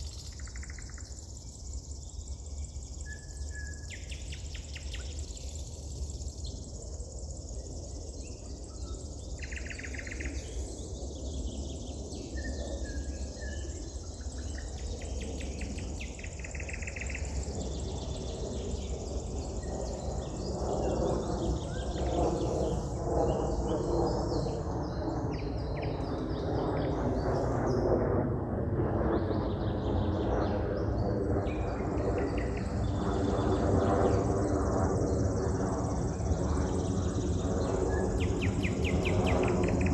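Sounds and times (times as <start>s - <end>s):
outdoor background noise: 0.0s - 39.9s.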